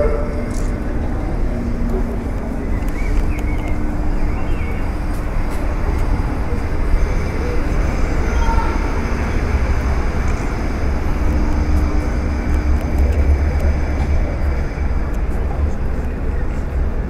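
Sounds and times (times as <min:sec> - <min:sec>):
low rumble of road traffic: 0:00.0 - 0:17.0.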